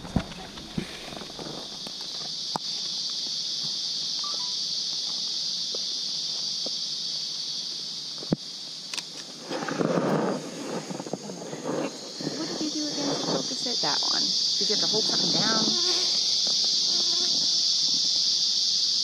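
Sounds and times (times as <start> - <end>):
insect buzzing: 0.0 - 19.0.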